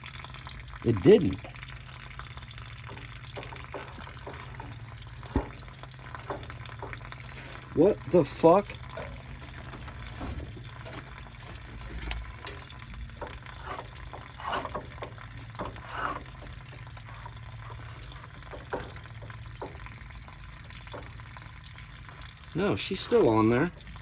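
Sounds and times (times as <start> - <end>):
water trickling: 0.0 - 24.0.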